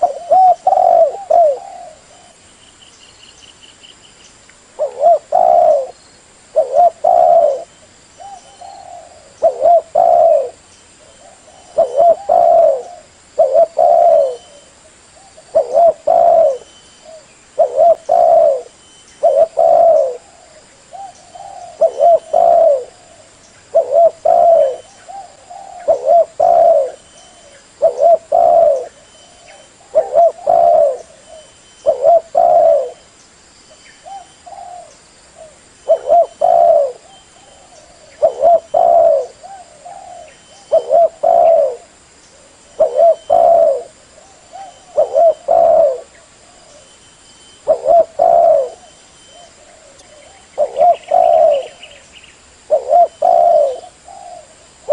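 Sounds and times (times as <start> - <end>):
dove cooing: 0.0 - 2.4, 4.8 - 33.1, 34.0 - 47.0, 47.6 - 52.0, 52.7 - 54.9.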